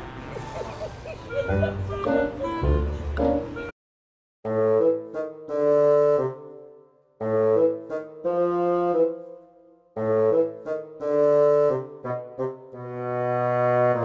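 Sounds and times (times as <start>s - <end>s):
brass chords music: 0.0s - 3.7s, 4.4s - 14.0s.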